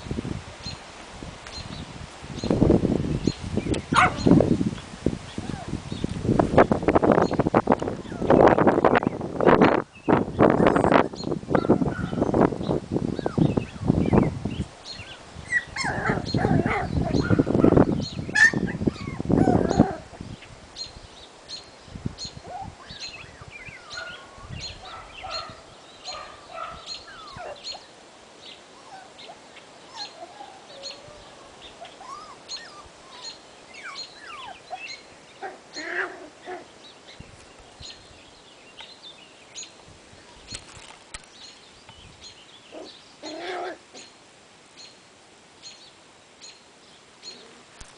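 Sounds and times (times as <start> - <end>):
birds chirping: 1.5 - 44.2, 45.6 - 47.9.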